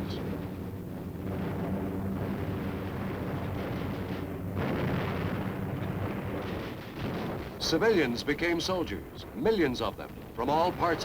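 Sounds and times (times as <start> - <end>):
rumbling of explosions: 0.0 - 11.0.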